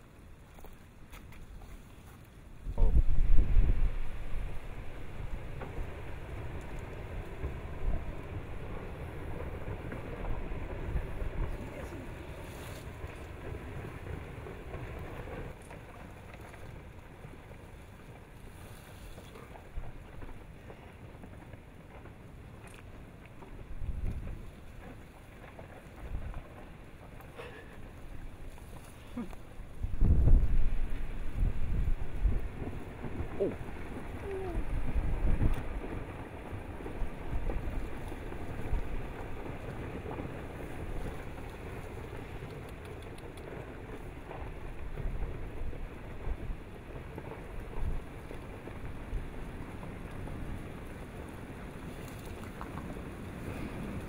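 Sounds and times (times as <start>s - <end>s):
rockfall rumble: 2.6s - 54.0s.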